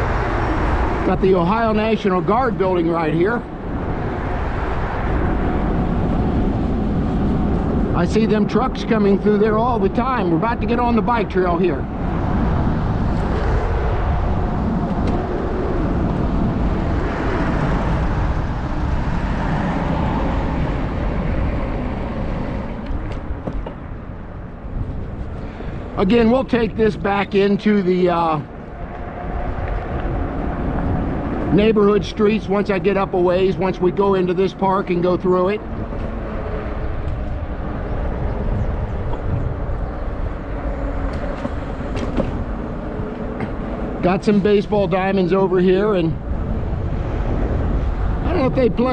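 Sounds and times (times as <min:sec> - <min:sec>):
fat tyres rolling: 0:00.0 - 0:48.9
road noise from bike tires: 0:00.0 - 0:48.9
wind rumble: 0:00.0 - 0:48.9.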